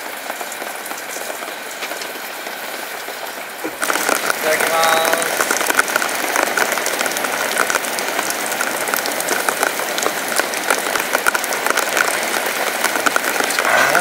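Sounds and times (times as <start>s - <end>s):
rain pattering on a tarp: 0.0s - 14.0s.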